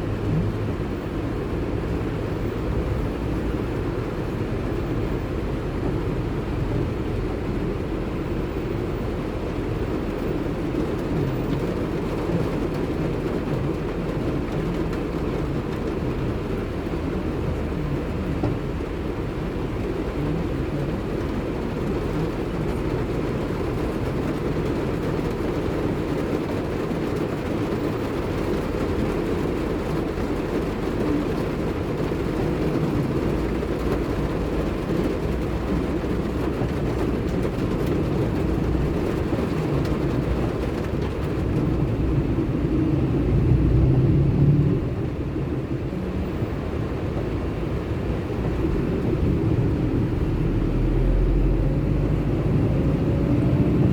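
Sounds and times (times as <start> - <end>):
car driving in rain: 0.0 - 53.9
heavy rain: 0.0 - 53.9.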